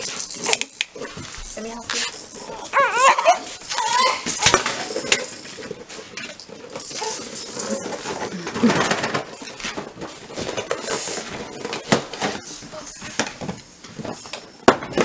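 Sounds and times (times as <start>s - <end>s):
paper and plastic rustling: 0.0s - 15.0s.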